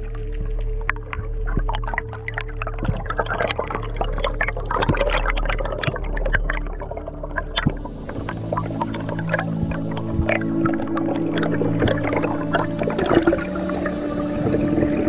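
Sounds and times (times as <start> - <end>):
underwater air bubbles popping: 0.0 - 15.0.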